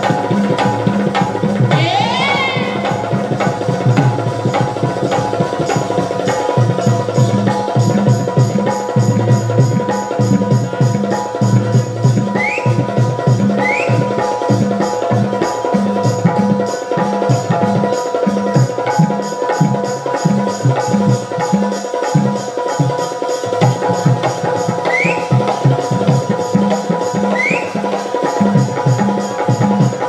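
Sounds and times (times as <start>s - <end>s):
driving drum rhythm: 0.0s - 30.0s.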